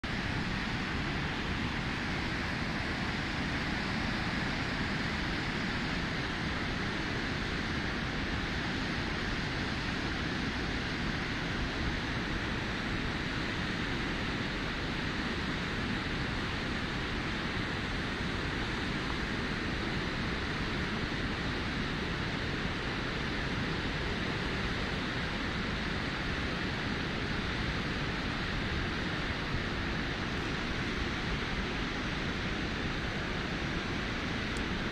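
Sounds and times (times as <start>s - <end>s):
white water rushing: 0.0s - 34.9s.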